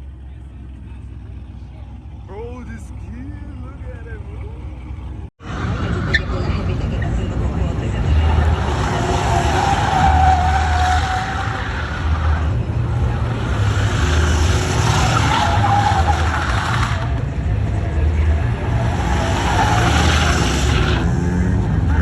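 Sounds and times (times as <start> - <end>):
car engine running hard: 0.0 - 22.0
car tyres squealing: 3.5 - 22.0.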